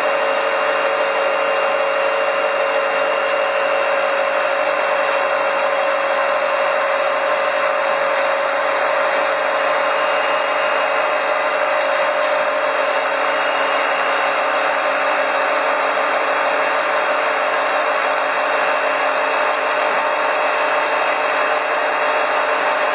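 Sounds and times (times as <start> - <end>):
extruder machine whirring: 0.0 - 22.9.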